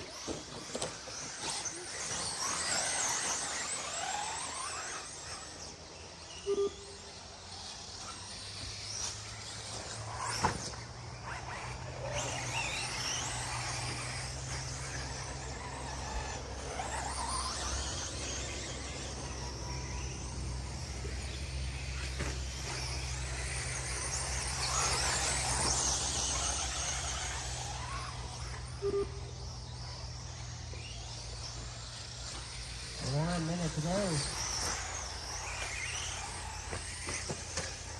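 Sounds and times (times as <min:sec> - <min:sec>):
electric rc car motors whining: 0:00.0 - 0:37.9.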